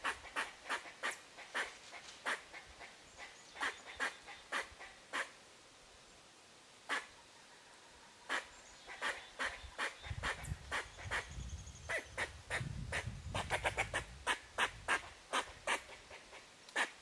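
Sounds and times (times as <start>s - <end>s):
squirrels barking alarm calls: 0.0s - 5.4s, 8.3s - 17.0s.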